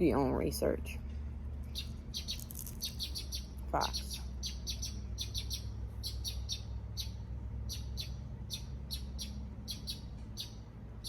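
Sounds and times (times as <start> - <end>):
low steady hum: 0.0 - 11.0
bird chirping: 1.6 - 10.7.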